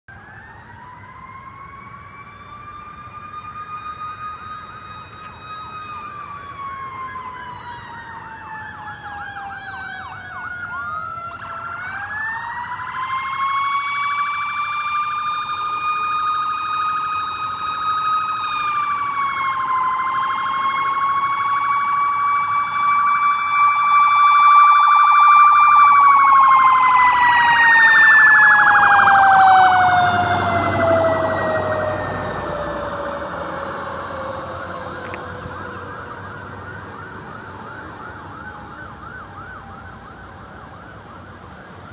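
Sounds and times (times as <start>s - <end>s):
fire engine siren wailing: 0.1s - 41.9s.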